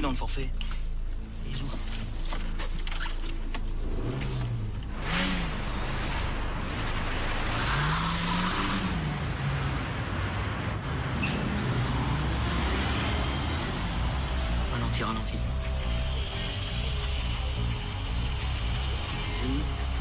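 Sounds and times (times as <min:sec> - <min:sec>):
road and tyre noise: 0:00.0 - 0:20.0
car engine revving: 0:02.3 - 0:20.0.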